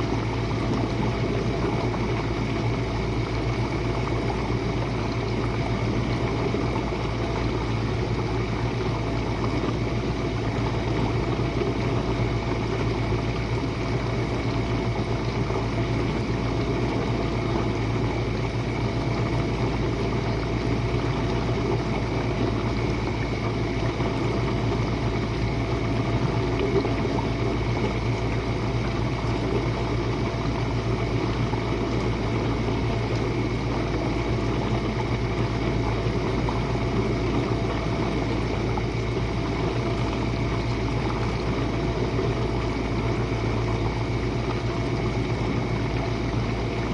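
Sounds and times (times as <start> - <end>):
dishwasher motor hum: 0.0 - 46.9
dishwasher water noise: 0.0 - 46.9.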